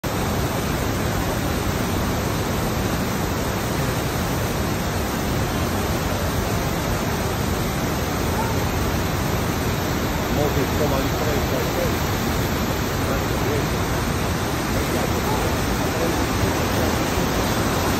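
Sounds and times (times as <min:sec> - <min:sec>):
water rushing from mill race: 0:00.0 - 0:17.9.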